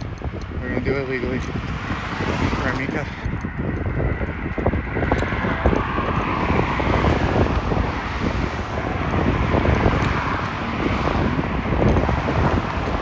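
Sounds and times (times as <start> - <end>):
street traffic: 0.0 - 13.0
wind buffeting microphone: 0.0 - 13.0.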